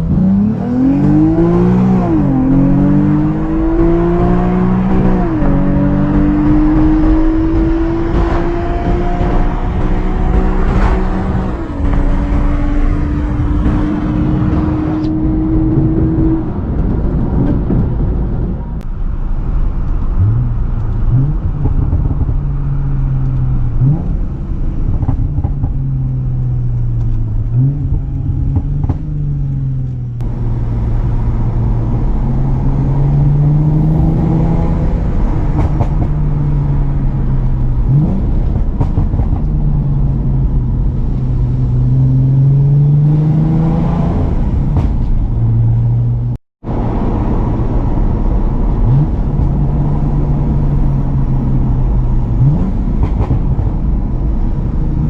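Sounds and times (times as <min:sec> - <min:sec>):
exhaust pops: 0:00.0 - 0:42.3, 0:43.9 - 0:55.0
car engine revving: 0:00.0 - 0:55.0.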